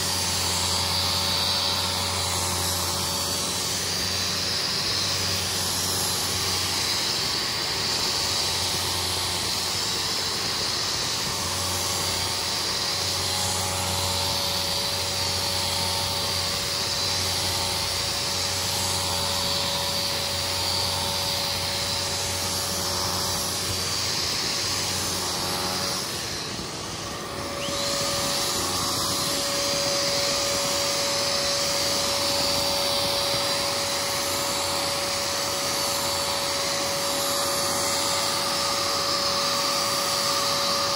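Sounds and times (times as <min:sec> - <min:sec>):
carpet cleaner motor whining: 0:00.0 - 0:40.9.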